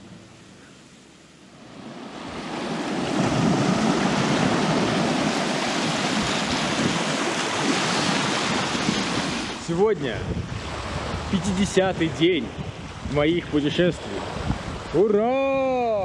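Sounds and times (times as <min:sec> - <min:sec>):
river waves rushing: 0:00.0 - 0:16.0
wind: 0:00.0 - 0:16.0
wind buffeting microphone: 0:02.1 - 0:16.0.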